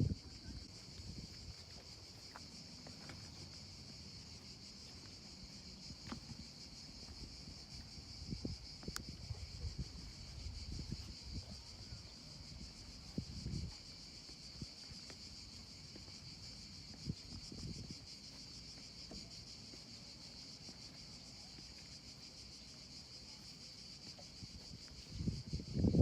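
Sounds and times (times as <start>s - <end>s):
insects chorus: 0.0s - 26.0s
footsteps on ground: 0.8s - 9.0s, 12.8s - 25.7s.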